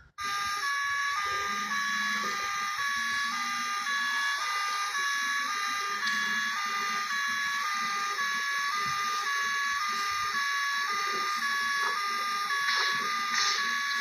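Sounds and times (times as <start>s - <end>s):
two-tone ambulance siren: 0.0s - 14.0s.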